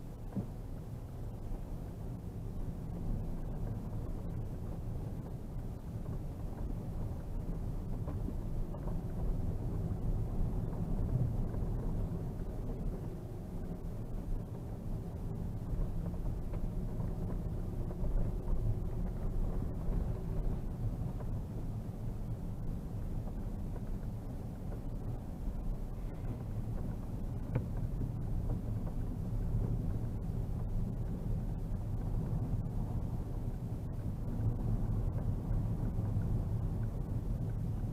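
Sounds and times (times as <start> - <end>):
car cabin engine and tyre rumble: 0.0 - 37.9.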